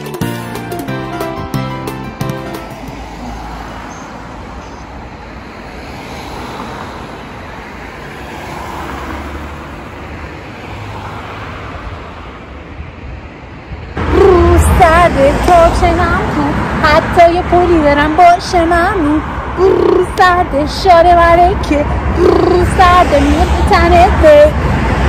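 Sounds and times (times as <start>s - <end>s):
passing cars rushing: 0.8s - 25.0s.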